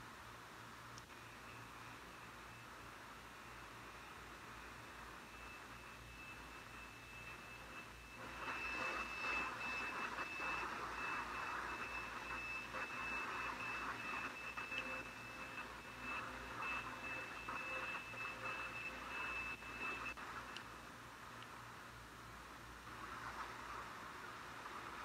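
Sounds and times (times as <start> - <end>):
radio static hiss: 0.0 - 25.0
thin high whine: 0.0 - 25.0.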